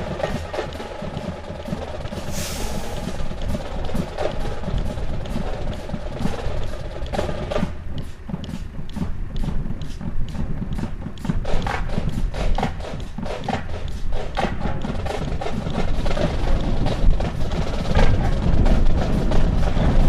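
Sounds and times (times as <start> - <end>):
low rumble: 0.0 - 20.0
rifles clacking and knocking: 0.0 - 20.0.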